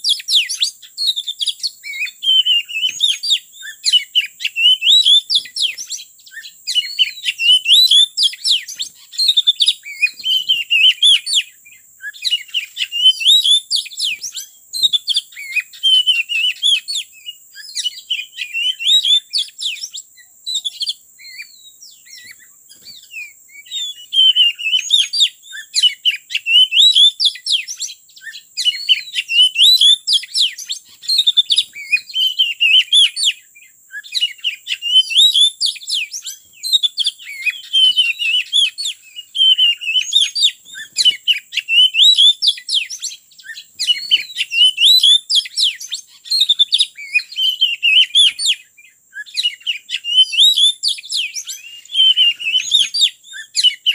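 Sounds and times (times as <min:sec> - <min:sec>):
bird singing whistles and chirps: 0:00.0 - 0:53.9.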